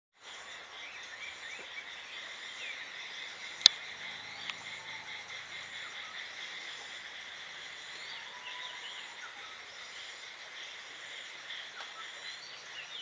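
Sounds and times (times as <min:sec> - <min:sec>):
faint bird chirps: 0:00.2 - 0:13.0
shrill insect chorus: 0:00.2 - 0:13.0.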